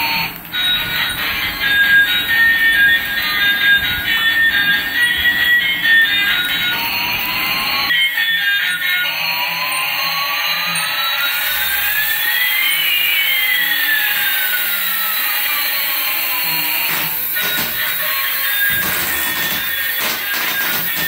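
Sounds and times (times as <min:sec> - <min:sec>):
electric rotor motors whirring: 0:00.0 - 0:07.9, 0:09.1 - 0:21.0.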